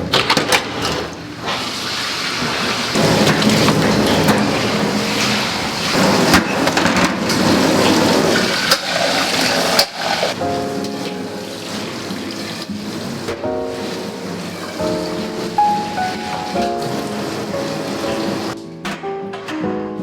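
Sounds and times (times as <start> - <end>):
tap water running into sink: 1.4 - 18.6
dishes clinking: 2.5 - 18.6.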